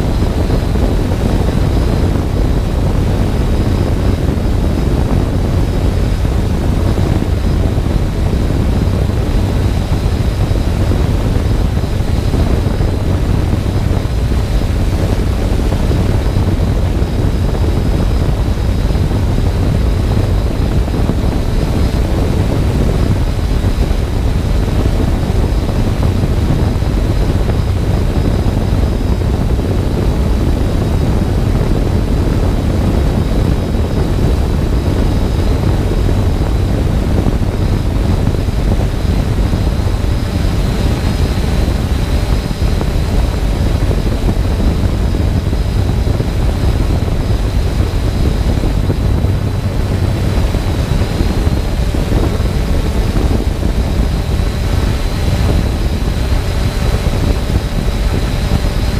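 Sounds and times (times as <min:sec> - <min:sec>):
drone motors and propellers hovering: 0:00.0 - 0:58.9.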